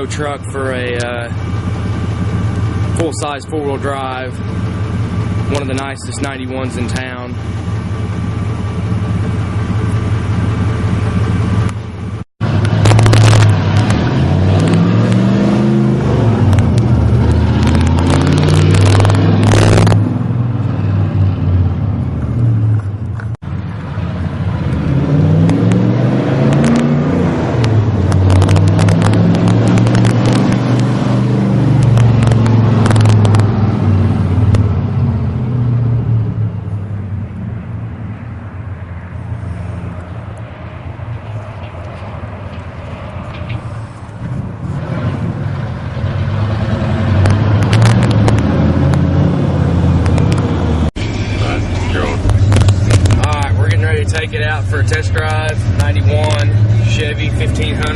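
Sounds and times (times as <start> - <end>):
pickup engine idling and revving: 0.0 - 57.9.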